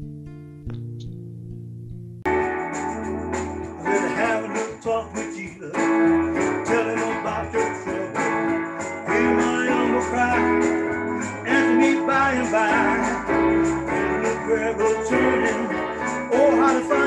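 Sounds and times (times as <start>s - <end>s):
electronic keyboard chords: 0.6s - 17.0s.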